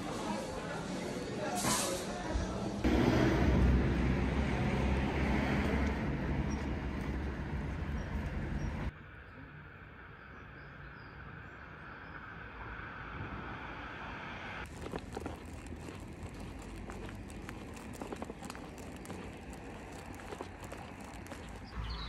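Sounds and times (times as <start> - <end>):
loud low street rumble: 0.0 - 22.0
quiet outdoor background: 0.0 - 22.0.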